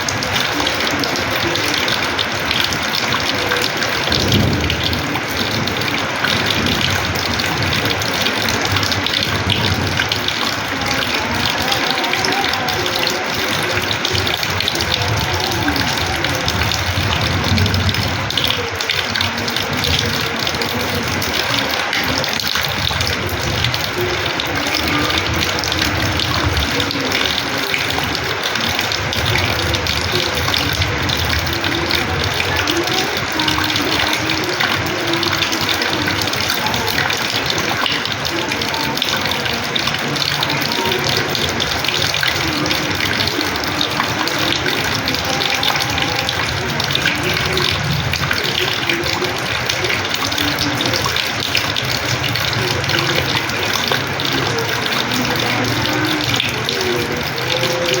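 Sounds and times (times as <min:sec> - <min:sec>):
rainwater pouring and splashing: 0:00.0 - 0:58.0.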